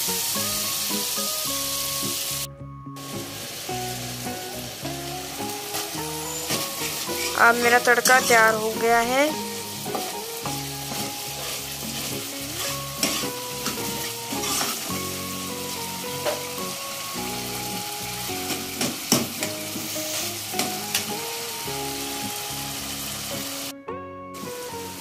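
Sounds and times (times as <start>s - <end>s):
tomatoes sizzling in oil: 0.0s - 23.8s, 24.4s - 25.0s
soft background music: 0.0s - 25.0s.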